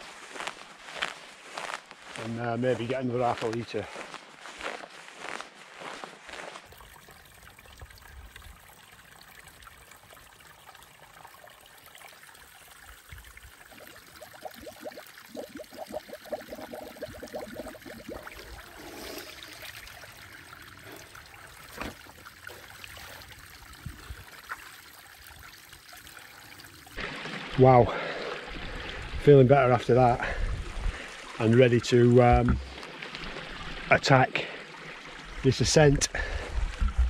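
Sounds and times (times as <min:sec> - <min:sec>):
mountain stream trickling: 0:00.0 - 0:37.0
water being handled: 0:00.0 - 0:37.0.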